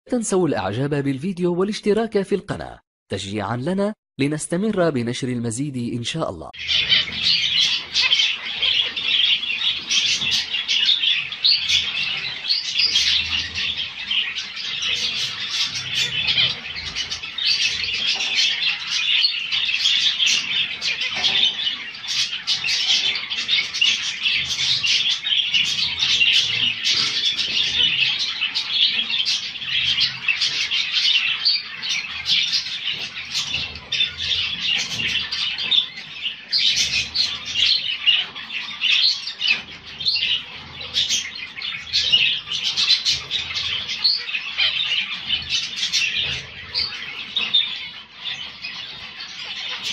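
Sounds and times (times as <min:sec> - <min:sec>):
finches chattering: 0:04.9 - 0:49.9.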